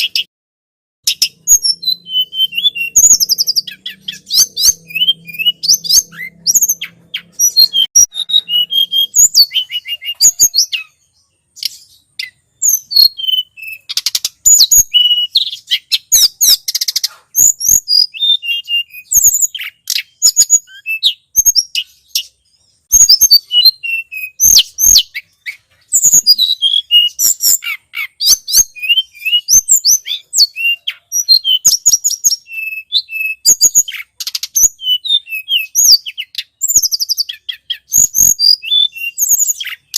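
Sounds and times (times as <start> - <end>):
bird high thin chirps: 0.0 - 0.3, 1.0 - 39.9.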